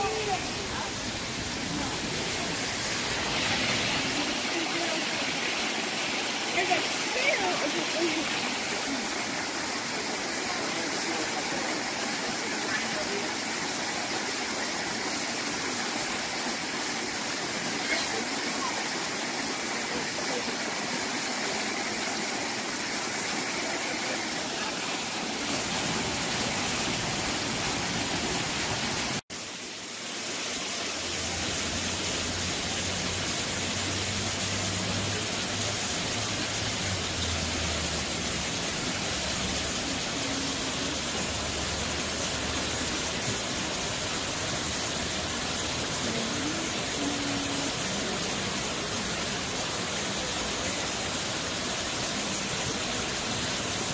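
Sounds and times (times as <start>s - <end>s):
waterfall splashing into pool: 0.0s - 53.9s.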